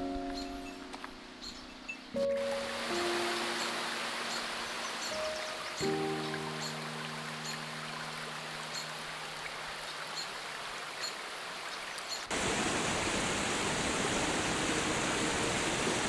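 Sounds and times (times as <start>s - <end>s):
stream rushing over boulders: 2.3s - 16.0s.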